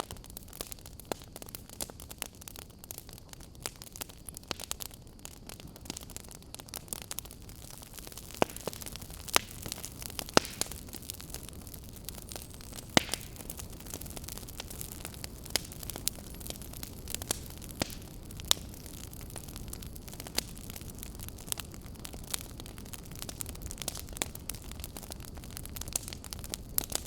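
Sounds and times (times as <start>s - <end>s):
fire crackling and popping: 0.0s - 27.0s
fire rumble and hiss: 0.0s - 27.0s.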